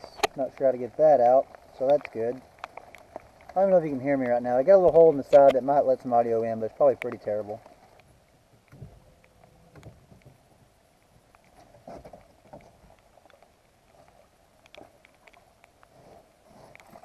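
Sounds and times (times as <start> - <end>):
muffled ticks and knocks: 0.0 - 6.1, 6.7 - 17.0
low hiss: 0.0 - 17.0.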